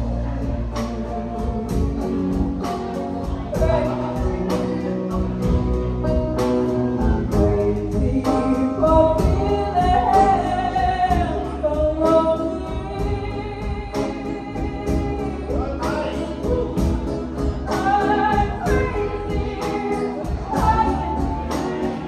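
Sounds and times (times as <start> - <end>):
woman singing: 0.0 - 4.7, 6.1 - 22.0
drums: 0.0 - 22.0.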